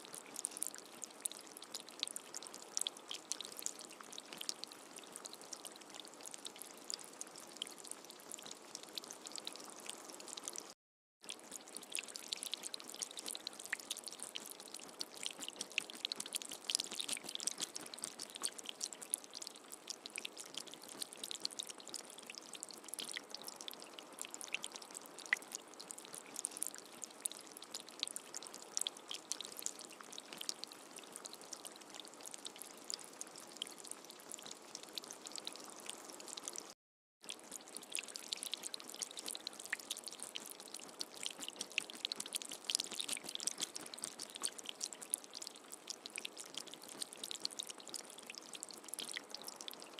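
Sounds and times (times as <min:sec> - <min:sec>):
rain patter: 0:00.0 - 0:49.9.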